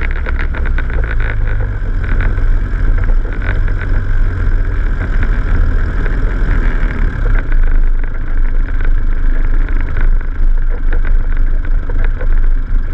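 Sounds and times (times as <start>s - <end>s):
knocks and rattles on stones: 0.0s - 12.4s
vehicle engine rumbling: 0.0s - 12.9s.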